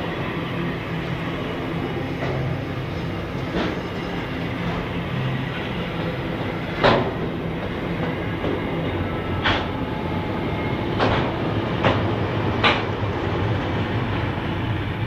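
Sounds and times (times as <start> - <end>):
diesel locomotive engine hum: 0.0 - 15.0
freight train rumbling past: 0.0 - 15.0.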